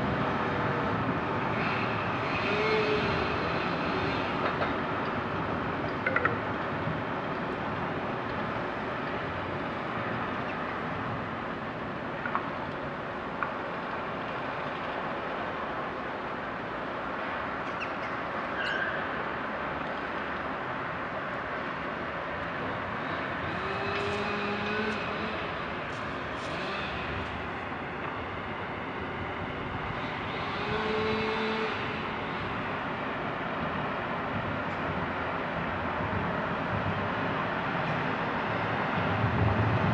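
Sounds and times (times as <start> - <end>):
distant engine noise: 0.0 - 39.9.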